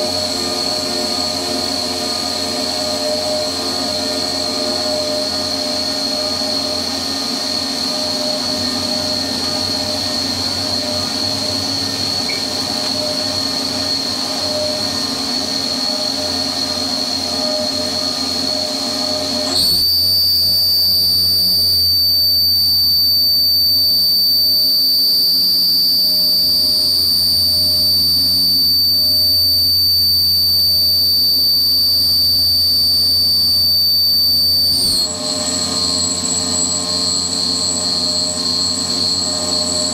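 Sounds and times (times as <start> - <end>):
milling spindle whine: 0.0 - 39.9.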